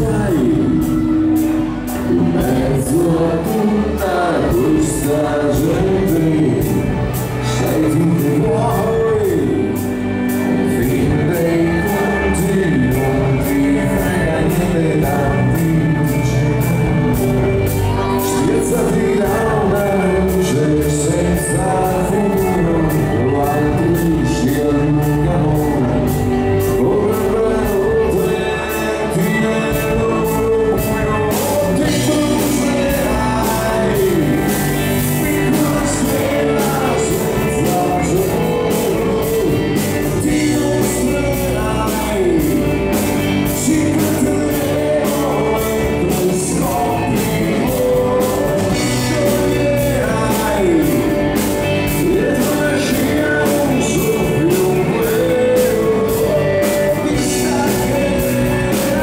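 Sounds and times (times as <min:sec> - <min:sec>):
drums: 0:00.0 - 0:59.0
electric guitar: 0:00.0 - 0:59.0
keyboards: 0:00.0 - 0:59.0
man singing into microphone: 0:00.0 - 0:59.0.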